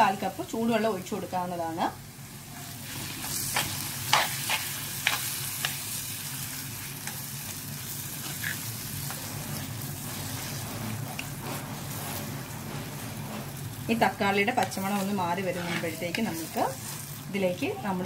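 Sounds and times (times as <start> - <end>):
tomato sizzling in hot pan: 0.0 - 18.0.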